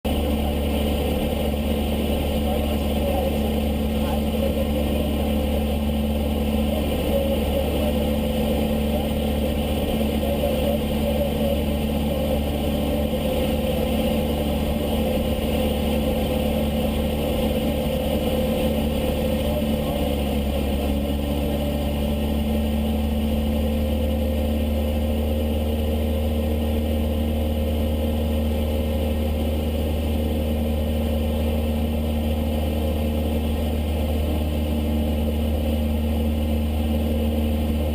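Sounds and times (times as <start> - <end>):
airplane engine and propeller droning: 0.0 - 37.9.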